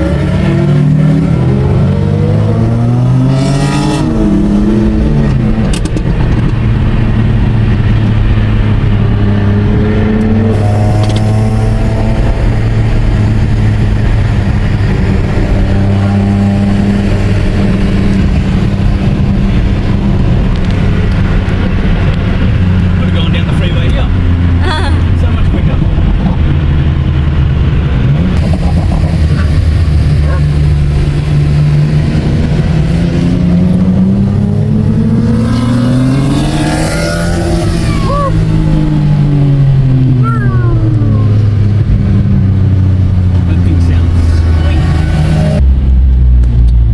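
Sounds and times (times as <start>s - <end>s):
race car engine running: 0.0s - 46.9s.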